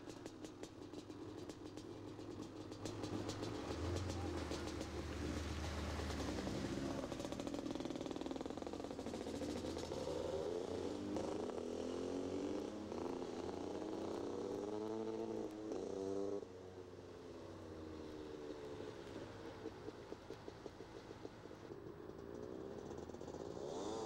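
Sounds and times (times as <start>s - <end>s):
vehicle engines running: 0.0s - 15.9s, 16.5s - 24.0s.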